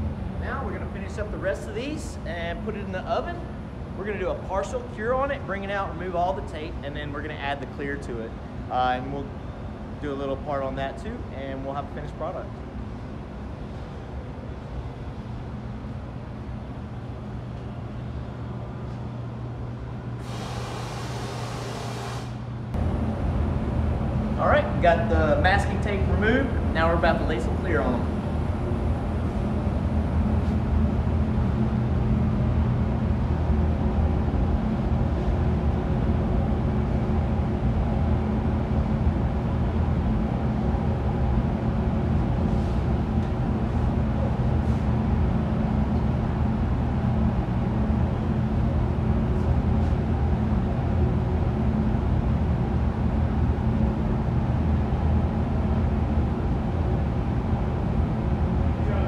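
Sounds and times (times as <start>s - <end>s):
air extraction system hum: 0.0s - 59.0s.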